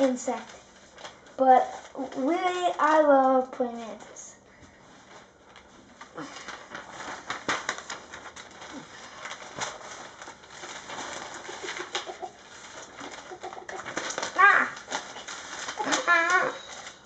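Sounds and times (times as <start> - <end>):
paper rustling and crackling: 0.0 - 17.0.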